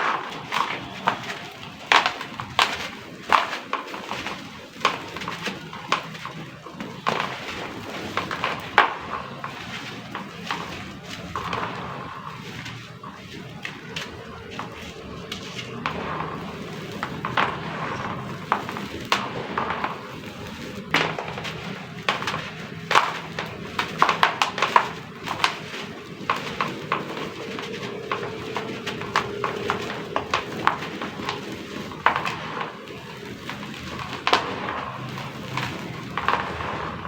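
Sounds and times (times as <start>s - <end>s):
crumbling cement crackling in water: 0.0s - 37.0s.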